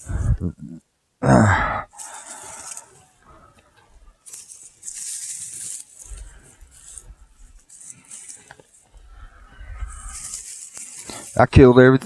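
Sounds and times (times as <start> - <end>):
hands scraping through soil: 1.9 - 12.0.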